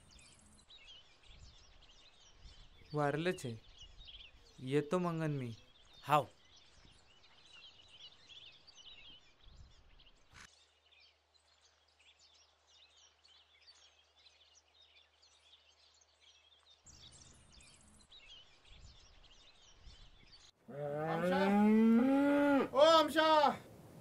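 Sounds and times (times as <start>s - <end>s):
small birds chirping: 0.0s - 23.6s.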